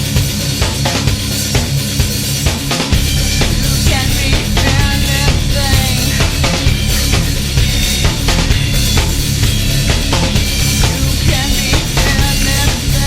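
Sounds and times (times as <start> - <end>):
drum kit beating: 0.0 - 13.0
metal band playing: 0.0 - 13.0.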